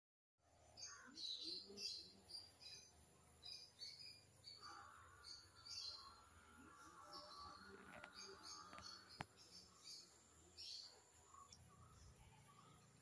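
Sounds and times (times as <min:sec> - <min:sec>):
faint songbirds chirping: 0:00.4 - 0:13.0.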